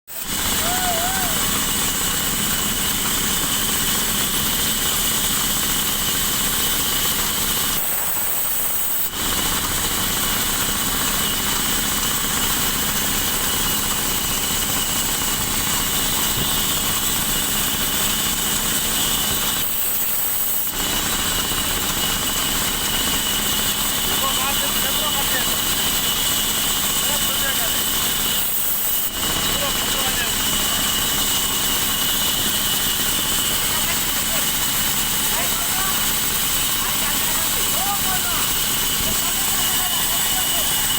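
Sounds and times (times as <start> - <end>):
sawmill saw cutting log: 0.1 - 40.9.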